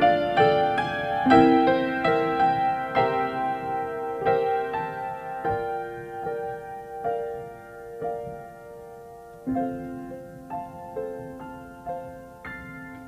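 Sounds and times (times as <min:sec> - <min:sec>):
grand piano chords: 0:00.0 - 0:13.0.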